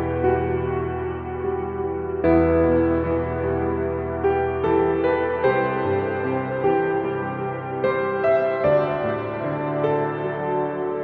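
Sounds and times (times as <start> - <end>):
ambient instrumental music: 0.0 - 11.0.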